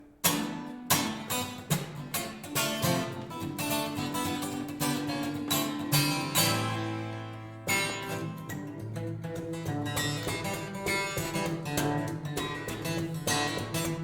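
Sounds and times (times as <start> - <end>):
acoustic guitar picking: 0.0 - 14.0.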